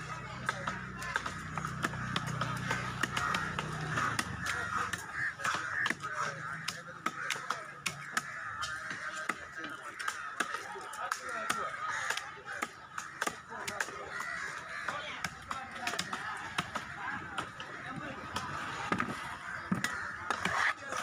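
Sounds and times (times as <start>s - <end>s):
knife chopping fish on wood: 0.4s - 17.6s.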